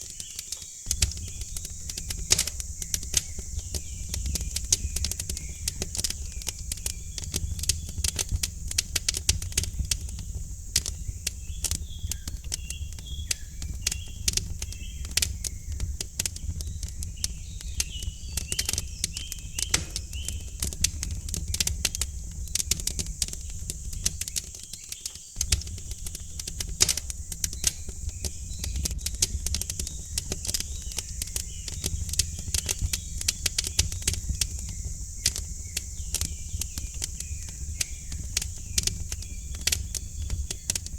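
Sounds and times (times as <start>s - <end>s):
birds chirping: 0.0s - 40.9s
wood fire crackling: 0.0s - 40.9s.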